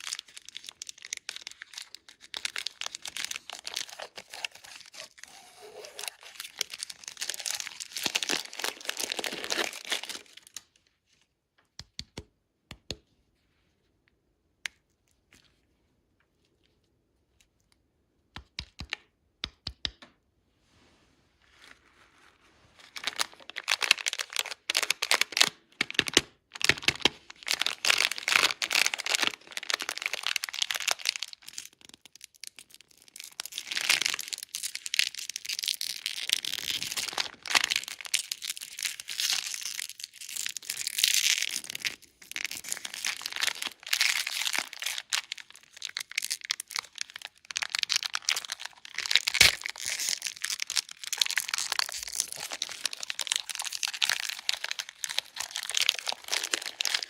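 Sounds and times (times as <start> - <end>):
wrappers crinkling and crackling: 0.0 - 10.8, 21.5 - 57.0.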